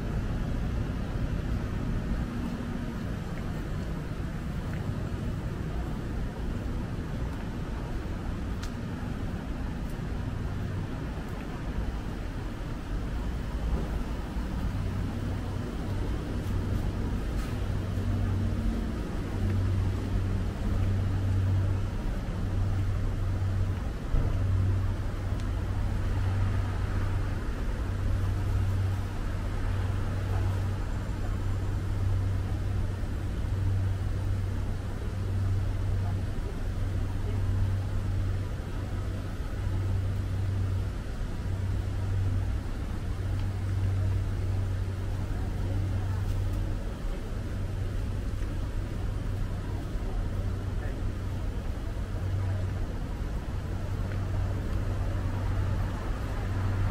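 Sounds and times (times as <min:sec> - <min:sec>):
street traffic rumble: 0:00.0 - 0:56.9.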